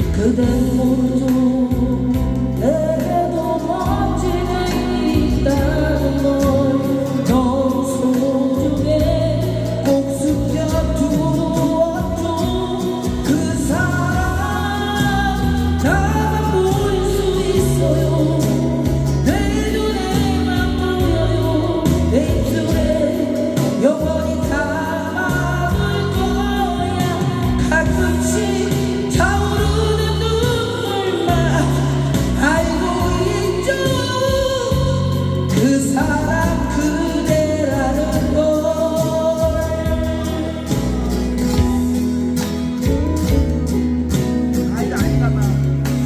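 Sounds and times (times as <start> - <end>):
backing music with bass line: 0.0 - 46.0
person singing a slow ballad: 0.0 - 46.0.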